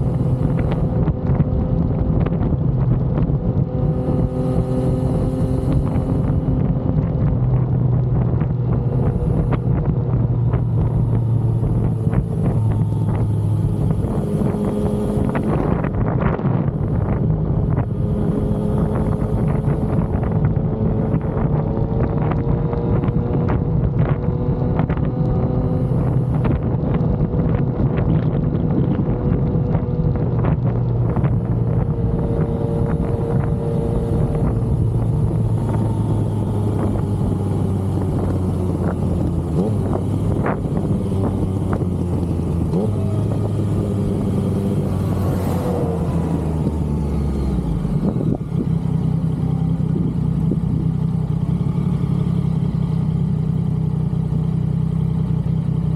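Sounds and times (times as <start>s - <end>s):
wind rushing over microphone: 0.0s - 51.6s
motorcycle engine running: 0.0s - 55.9s.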